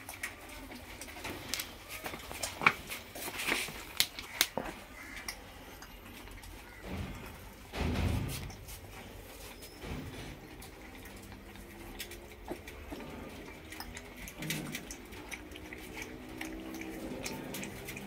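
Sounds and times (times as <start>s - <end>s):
puppies lapping milk: 0.0s - 18.0s.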